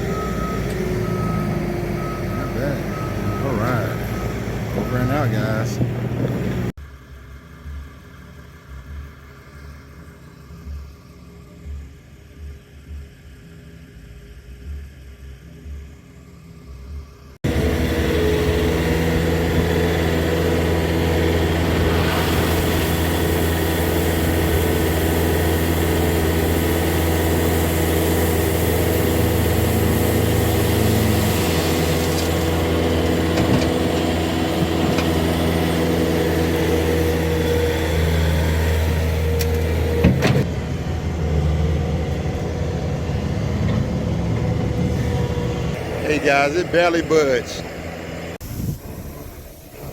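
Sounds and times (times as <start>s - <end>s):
pickup engine idling: 0.0s - 49.9s.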